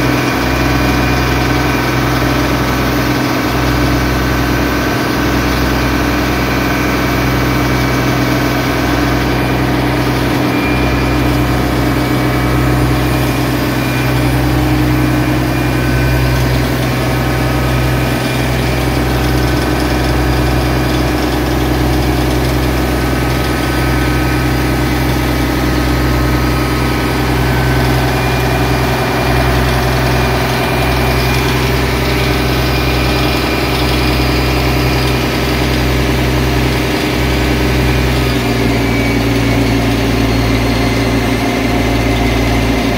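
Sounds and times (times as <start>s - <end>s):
boat engine droning: 0.0s - 42.9s
water rushing along hull: 0.0s - 42.9s.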